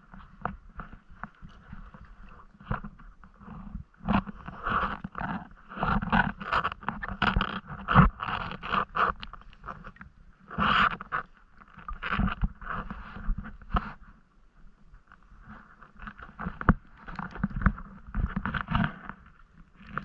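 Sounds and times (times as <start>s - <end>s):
water sloshing and splashing: 0.2s - 14.0s, 15.1s - 20.0s.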